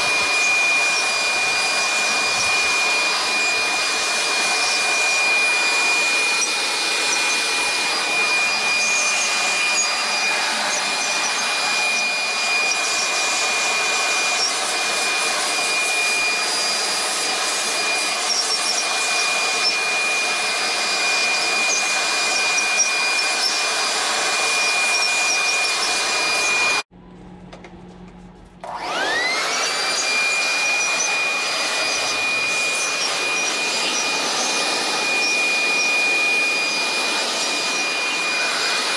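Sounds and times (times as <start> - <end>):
electric leaf blower whining: 0.0 - 38.9.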